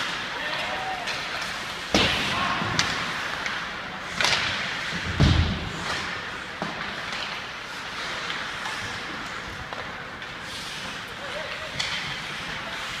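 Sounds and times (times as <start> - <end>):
hockey stick and puck clacks: 0.0 - 13.0.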